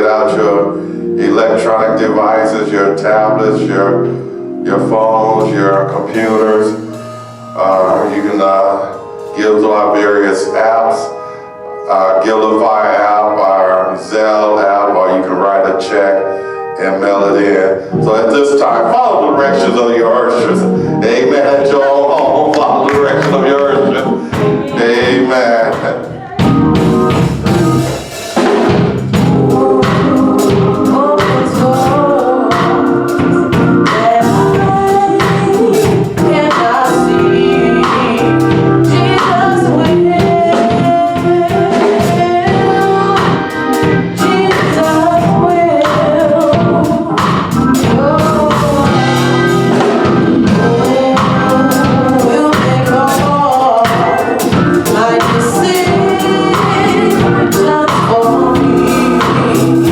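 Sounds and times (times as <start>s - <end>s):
gospel song with singing and drums: 0.0s - 59.9s.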